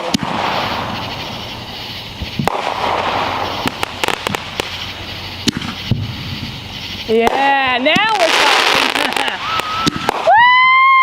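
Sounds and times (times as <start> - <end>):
fireworks bangs: 0.0 - 11.0
fireworks hissing: 0.0 - 11.0.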